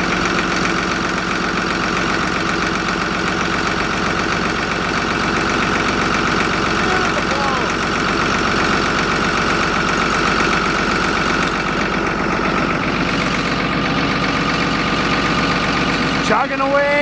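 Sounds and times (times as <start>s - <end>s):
diesel tractor engine idling: 0.0s - 17.0s.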